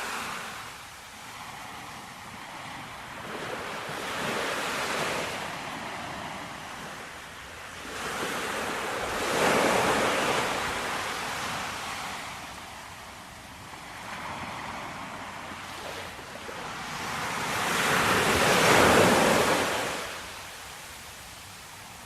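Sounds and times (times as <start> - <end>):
ocean waves washing: 0.0 - 22.0.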